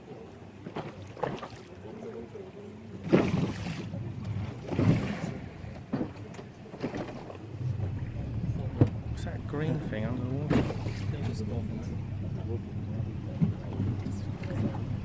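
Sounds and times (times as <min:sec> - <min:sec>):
speedboat engine hum: 0:00.0 - 0:15.0.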